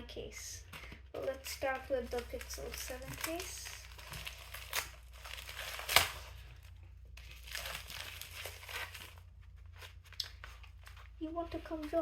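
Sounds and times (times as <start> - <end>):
sharp crackle of packaging: 1.2 - 11.1
packaging crinkling and tearing: 1.2 - 12.0.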